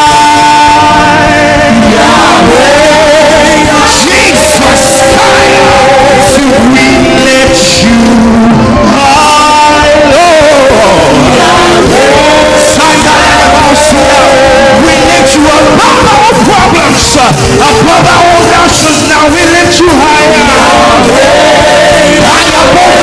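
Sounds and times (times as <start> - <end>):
band playing chords: 0.0 - 23.0
singers holding long notes: 0.0 - 23.0.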